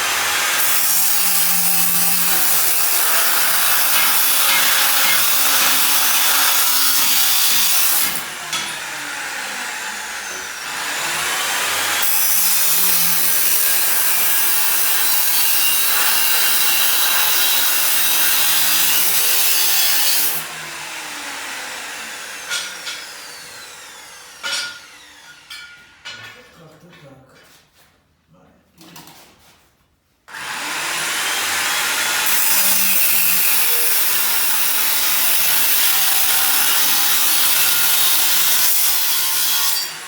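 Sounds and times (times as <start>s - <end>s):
power saw cutting steel: 0.0s - 26.2s, 30.3s - 40.0s.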